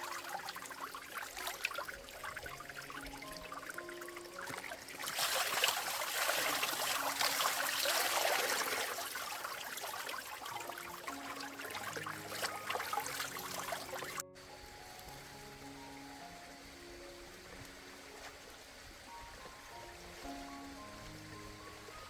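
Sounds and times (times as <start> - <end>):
soft background music: 0.0 - 22.0
water splashing and trickling: 0.0 - 22.0.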